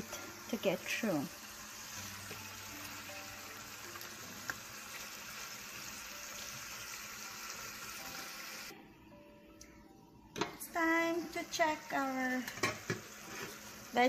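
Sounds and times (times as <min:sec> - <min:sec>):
vegetables sizzling in a pan: 0:00.0 - 0:08.7, 0:10.6 - 0:14.0.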